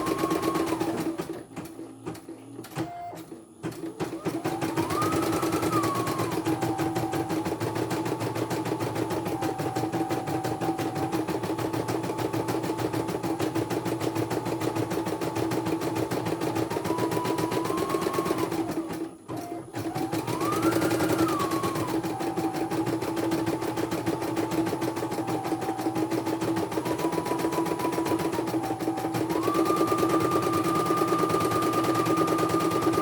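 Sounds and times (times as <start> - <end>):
embroidery machine needle stitching: 0.0 - 33.0.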